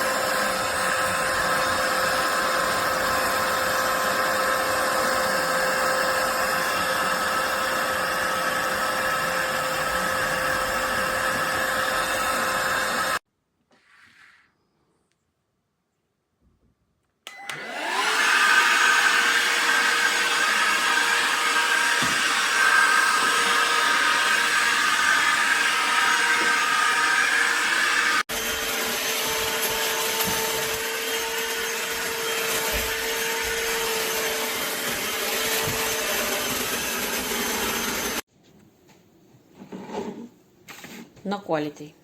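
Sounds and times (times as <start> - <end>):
cordless vacuum cleaner whirring: 0.0 - 13.2, 17.3 - 38.3.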